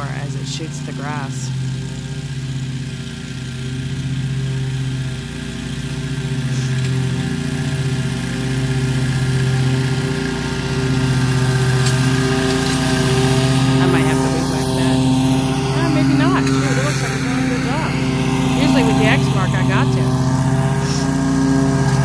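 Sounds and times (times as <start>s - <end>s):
lawn mower engine running: 0.0s - 22.0s
mower blades cutting grass: 0.0s - 22.0s.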